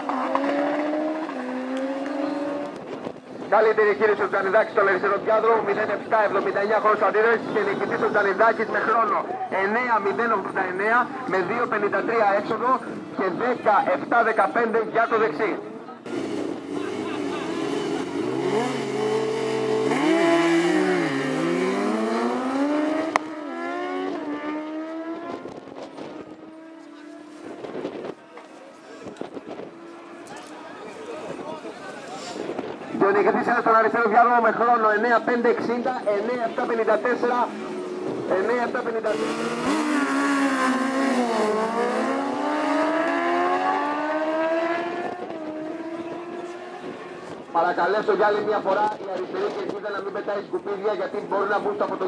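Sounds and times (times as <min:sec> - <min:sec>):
motorcycles revving and accelerating: 0:00.0 - 0:13.6, 0:16.0 - 0:33.4, 0:34.6 - 0:52.0.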